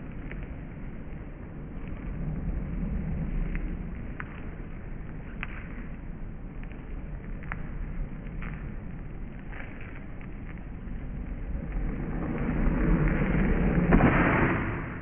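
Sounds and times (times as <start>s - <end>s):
skateboard wheels rolling on concrete: 0.0s - 15.0s.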